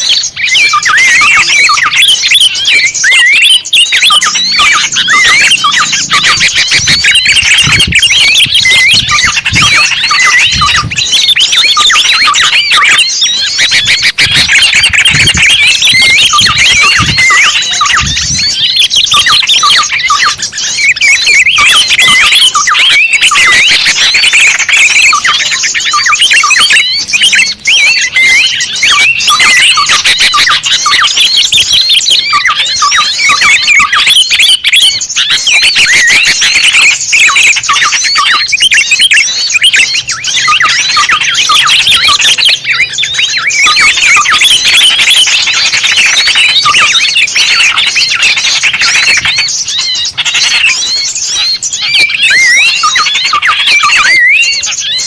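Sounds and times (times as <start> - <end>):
many small birds chirping: 0.0 - 55.0.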